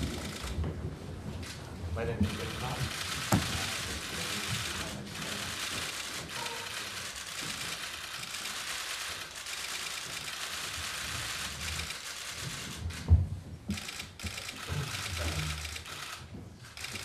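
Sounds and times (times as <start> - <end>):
camera shutters clicking: 0.0 - 0.6, 2.2 - 13.1, 13.7 - 17.0.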